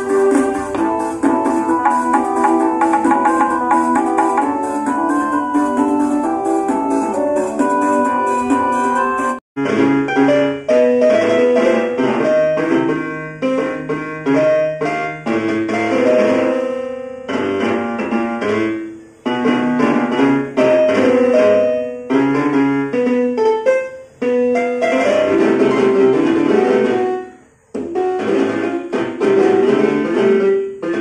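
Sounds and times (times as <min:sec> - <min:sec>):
keyboard note clusters: 0:00.0 - 0:31.0.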